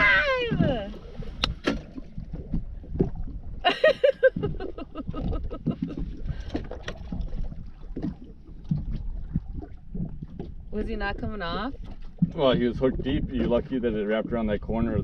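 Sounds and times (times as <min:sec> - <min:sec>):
knocks and clatter in boat: 0:00.0 - 0:15.0.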